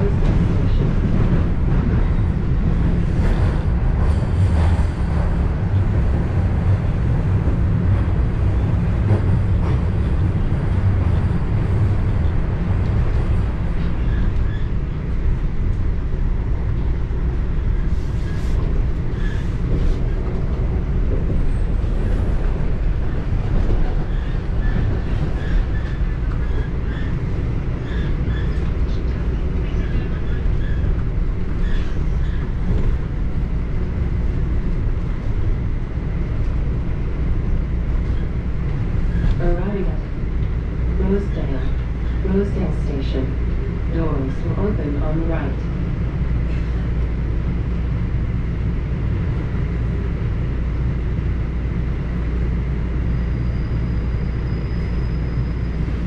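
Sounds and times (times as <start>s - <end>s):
subway train wheels rumbling: 0.0s - 56.0s.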